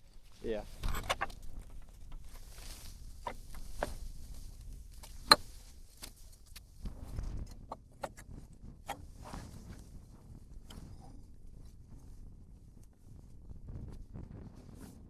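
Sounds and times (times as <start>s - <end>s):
wind rumble on microphone: 0.1s - 15.0s.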